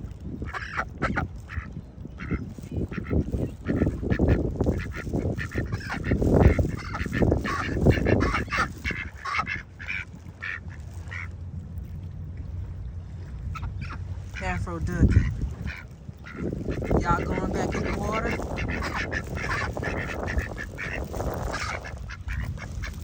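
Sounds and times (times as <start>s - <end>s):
wind on microphone: 0.0s - 23.0s
ducks quacking: 0.4s - 11.3s, 13.4s - 23.0s.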